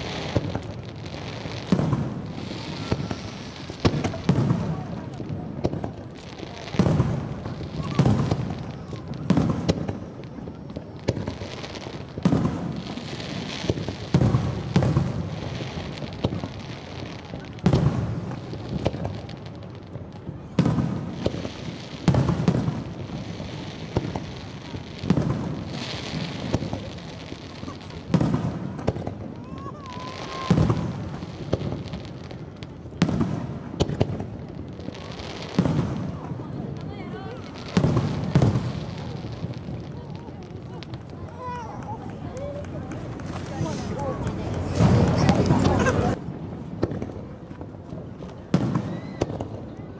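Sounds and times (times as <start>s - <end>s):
fireworks booming: 0.0s - 49.9s
fireworks crackling: 0.0s - 49.9s.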